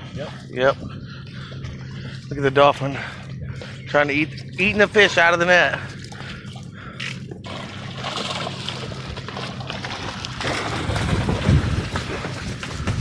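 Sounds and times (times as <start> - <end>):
boat motor humming: 0.0 - 13.0
water splashing and sloshing: 0.0 - 13.0.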